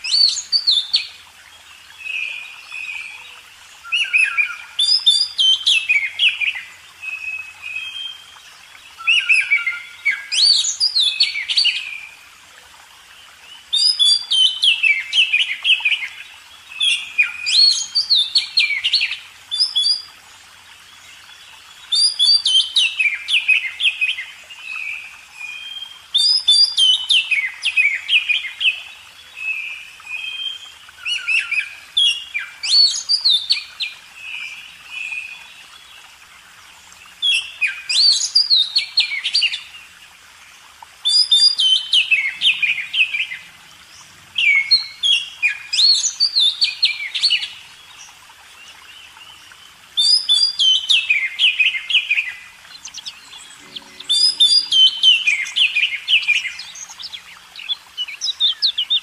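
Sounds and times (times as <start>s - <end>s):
songbird singing: 0.0s - 12.2s, 13.1s - 59.0s.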